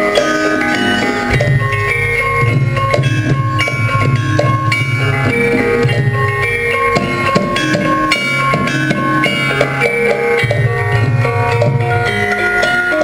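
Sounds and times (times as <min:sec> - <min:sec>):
drumming: 0:00.0 - 0:13.0
metallophone melody: 0:00.0 - 0:13.0.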